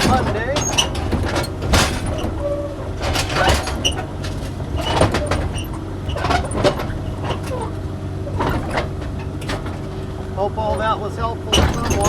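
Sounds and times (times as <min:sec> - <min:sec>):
diesel engine running: 0:00.0 - 0:12.0
metal clanks and knocks: 0:00.0 - 0:12.0.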